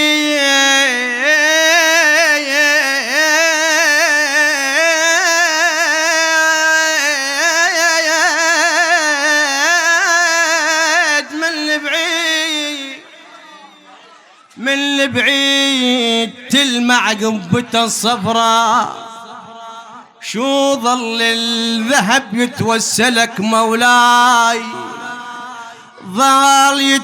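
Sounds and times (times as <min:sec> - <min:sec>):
man chanting melismatically: 0:00.0 - 0:27.0.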